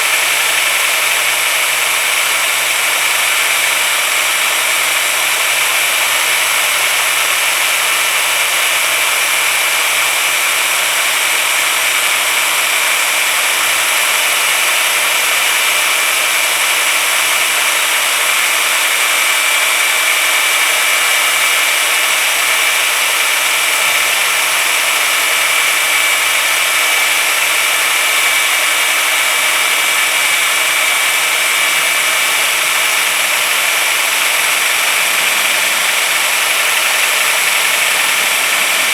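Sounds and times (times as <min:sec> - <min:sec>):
power drill polishing metal: 0:00.0 - 0:38.9.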